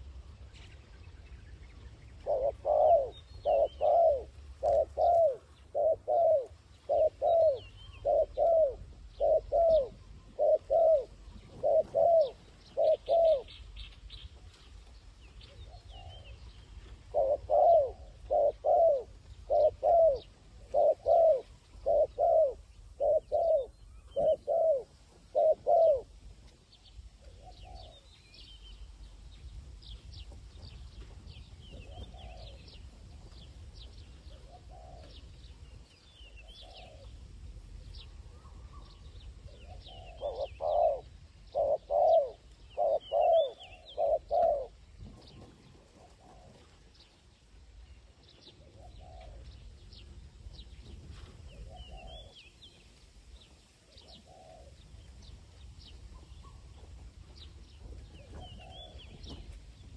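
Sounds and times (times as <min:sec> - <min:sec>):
small birds chirping: 0:00.0 - 0:59.9
dove cooing: 0:02.1 - 0:13.8, 0:15.5 - 0:26.2, 0:26.8 - 0:28.1, 0:31.6 - 0:47.1, 0:48.2 - 0:52.4, 0:53.9 - 0:59.6.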